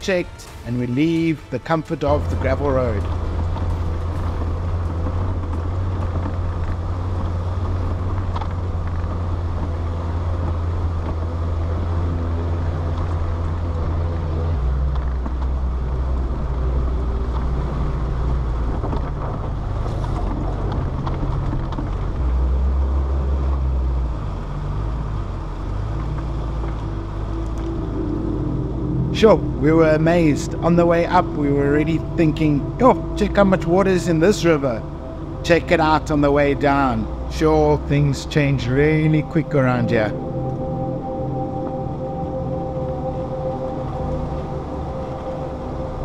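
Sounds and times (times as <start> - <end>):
off-road vehicle engine climbing: 0.0 - 46.0.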